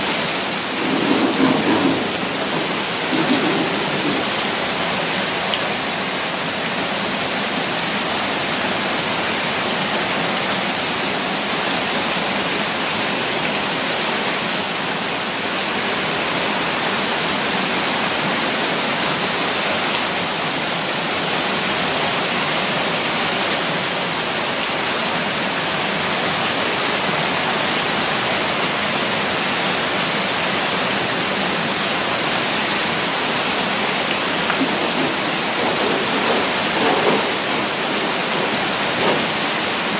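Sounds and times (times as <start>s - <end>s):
floodwater gushing down steps: 0.0s - 39.9s
heavy rain downpour: 0.0s - 39.9s.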